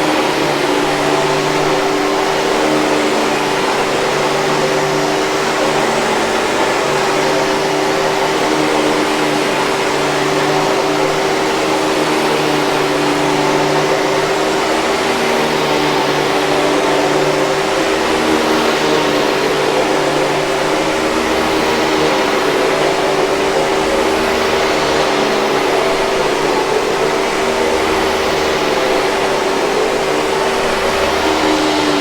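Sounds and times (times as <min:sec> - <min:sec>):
vacuum cleaner motor hum: 0:00.0 - 0:32.0.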